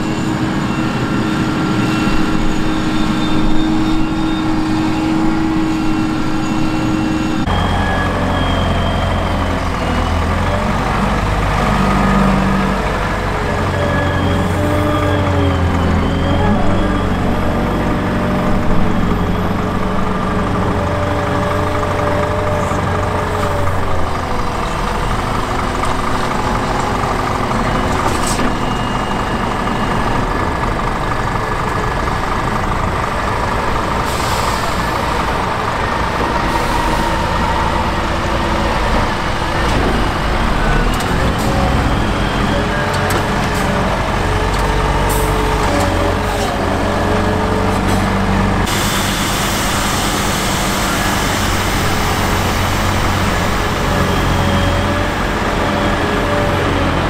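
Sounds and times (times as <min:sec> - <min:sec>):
heavy diesel engines revving: 0:00.0 - 0:57.0.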